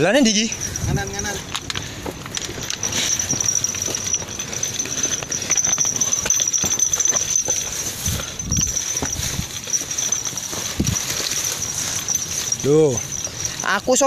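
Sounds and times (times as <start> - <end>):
footsteps through dry undergrowth: 0.5 - 14.0.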